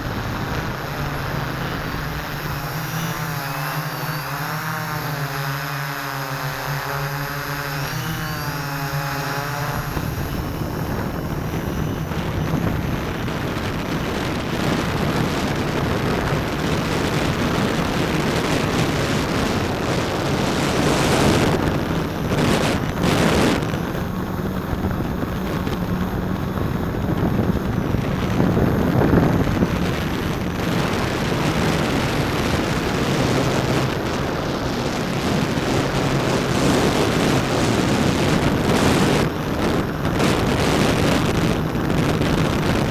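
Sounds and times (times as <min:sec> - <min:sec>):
drone motors whining: 0:00.0 - 0:42.9
wind howling over microphone: 0:00.0 - 0:42.9.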